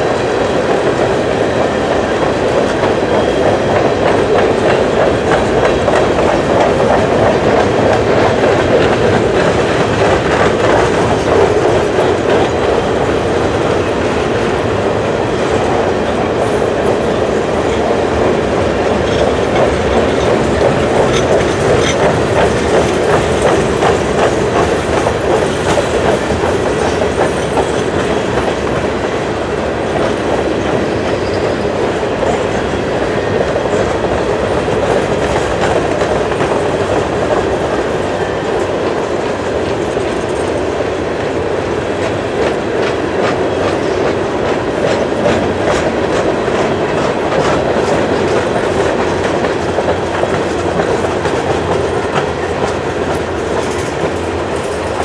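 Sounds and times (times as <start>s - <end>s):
steel wheels rumbling on rail: 0.0s - 55.0s
wheels clacking over rail joints: 0.0s - 55.0s.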